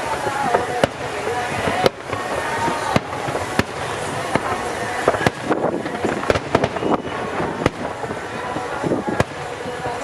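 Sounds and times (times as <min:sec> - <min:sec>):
firework shells bursting: 0:00.0 - 0:10.0
noisy background: 0:00.0 - 0:10.0.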